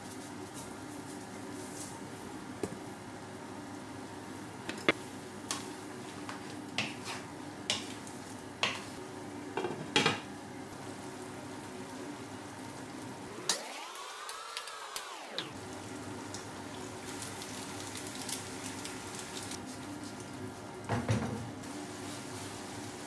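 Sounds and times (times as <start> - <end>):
stew sizzling: 4.2 - 23.0.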